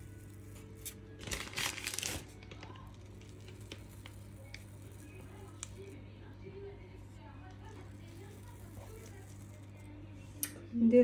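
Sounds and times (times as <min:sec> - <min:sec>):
piping bag crinkling: 0:00.0 - 0:10.4.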